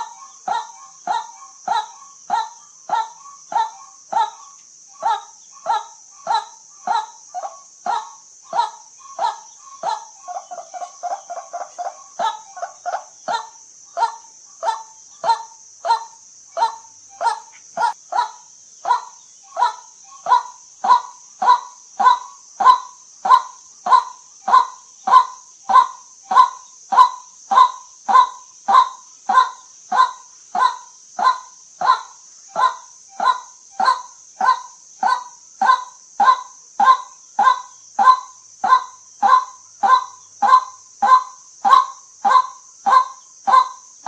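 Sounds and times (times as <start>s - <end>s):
waterhen calling: 0.0s - 43.8s
steady high hiss: 0.0s - 44.0s.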